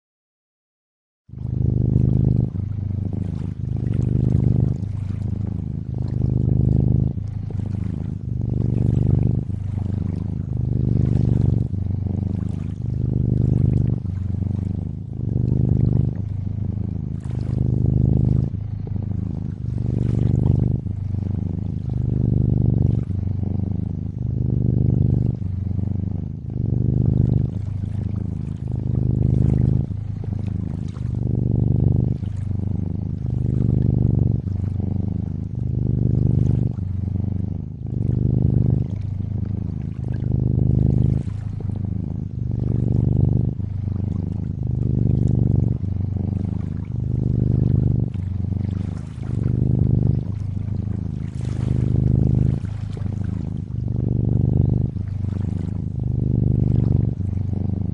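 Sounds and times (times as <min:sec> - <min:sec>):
cat purring: 0:01.3 - 0:57.9.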